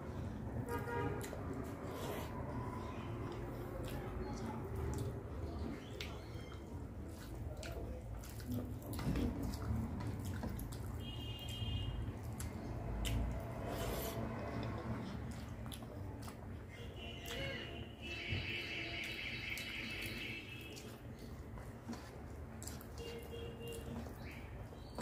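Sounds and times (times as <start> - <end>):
wet mouth chewing sounds: 0.0 - 17.7, 19.0 - 25.0.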